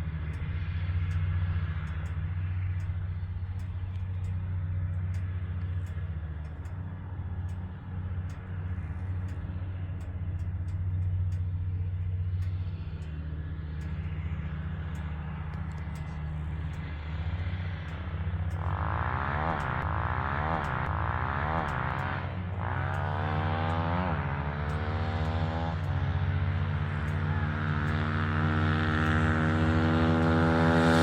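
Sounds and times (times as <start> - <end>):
motorcycle engine running: 0.0 - 31.0
sharp ticks: 0.2 - 28.0.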